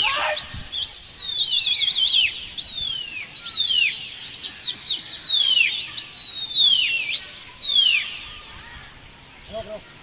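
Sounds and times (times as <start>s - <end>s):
kites calling shrill whistles: 0.0s - 9.9s.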